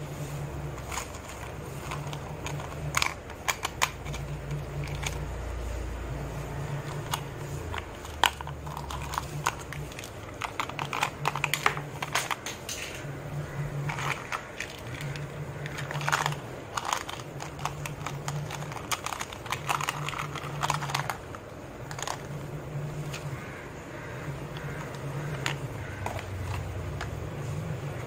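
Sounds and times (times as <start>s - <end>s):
plastic toy pieces clattering: 0.8s - 5.2s, 6.8s - 13.1s, 13.8s - 23.3s, 24.5s - 27.2s.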